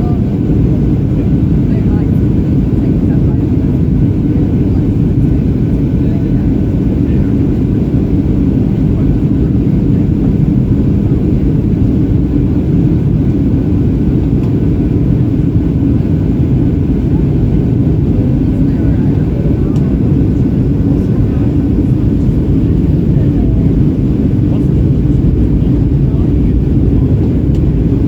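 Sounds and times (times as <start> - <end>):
airplane cabin airflow and engine noise: 0.0 - 28.0.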